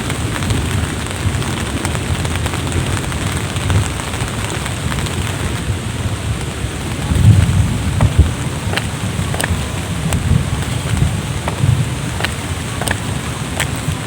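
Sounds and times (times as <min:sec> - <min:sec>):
drops ticking: 0:00.0 - 0:14.0
rain falling: 0:00.0 - 0:14.0.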